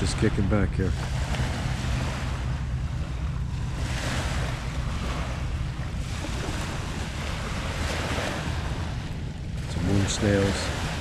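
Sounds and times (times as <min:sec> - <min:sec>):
small waves washing on beach: 0:00.0 - 0:11.0
wind buffeting microphone: 0:00.0 - 0:11.0.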